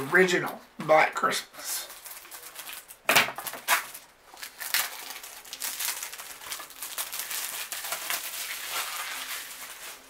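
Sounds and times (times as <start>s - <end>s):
plastic wrap crinkling and ripping: 1.8s - 10.0s.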